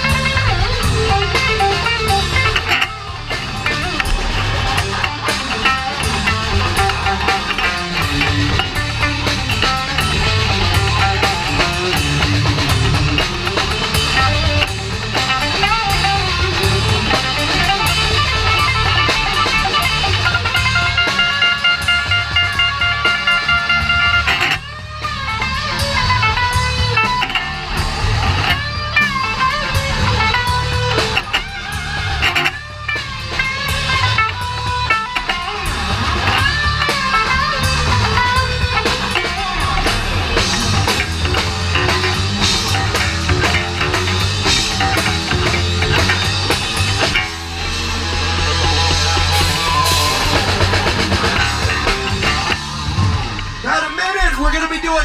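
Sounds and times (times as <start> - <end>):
electric guitar bending notes: 0.0 - 54.8
rock band playing: 0.0 - 55.0.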